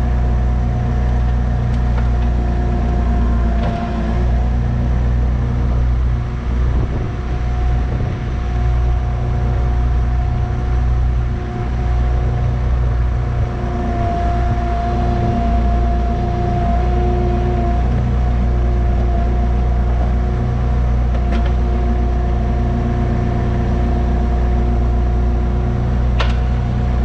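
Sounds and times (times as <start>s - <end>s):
diesel engine running: 0.0s - 27.0s
high hydraulic whine: 0.0s - 27.0s.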